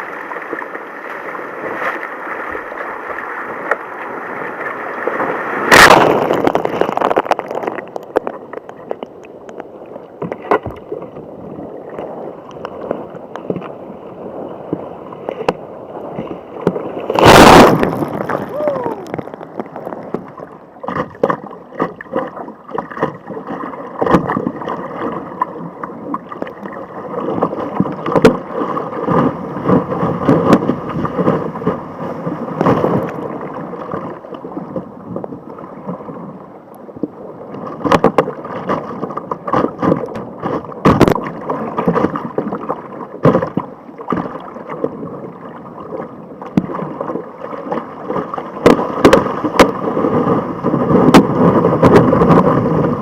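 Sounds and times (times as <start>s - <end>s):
sea water sloshing around kayak: 0.0s - 53.0s
paddle knocks and slaps: 0.3s - 9.0s, 10.2s - 11.2s, 11.9s - 13.8s, 14.6s - 36.3s, 37.0s - 53.0s.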